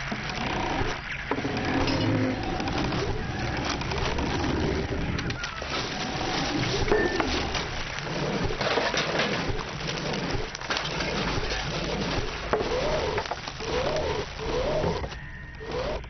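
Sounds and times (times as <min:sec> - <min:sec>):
crackly hiss: 0:00.0 - 0:16.0
pigeons cooing: 0:00.6 - 0:16.0.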